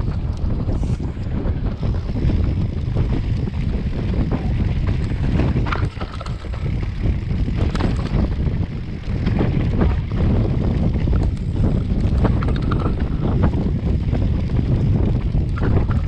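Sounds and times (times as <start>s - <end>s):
bike rattling over rough ground: 0.0s - 16.0s
wind buffeting microphone: 0.0s - 16.0s.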